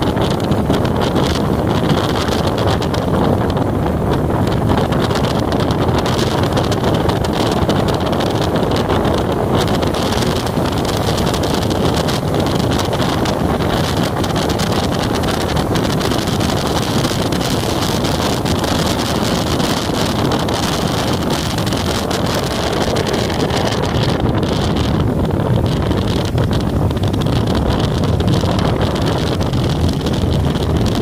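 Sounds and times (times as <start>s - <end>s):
wind rush over microphone: 0.0s - 31.0s.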